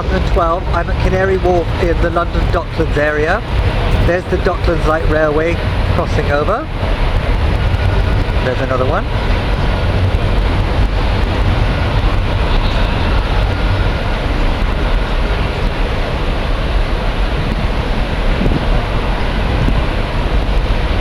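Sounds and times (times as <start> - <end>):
train rumbling on elevated track: 0.0 - 21.0.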